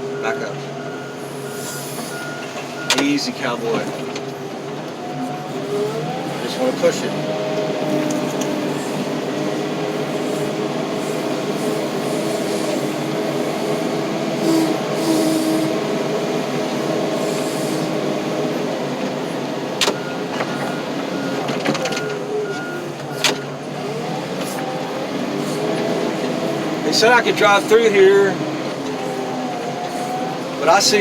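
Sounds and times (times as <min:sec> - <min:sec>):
tractor engine under load: 0:00.0 - 0:31.0.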